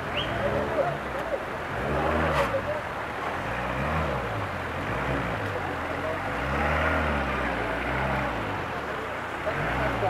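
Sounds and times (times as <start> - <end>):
vehicle engine revving: 0.1 - 10.0.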